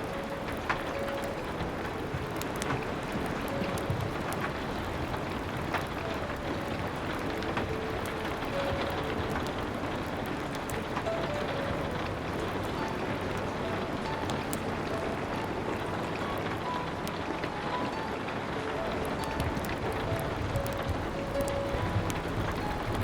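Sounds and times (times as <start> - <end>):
soft piano notes: 0.0 - 23.0
steady rain: 0.0 - 23.0
wood fire crackling: 0.0 - 23.0.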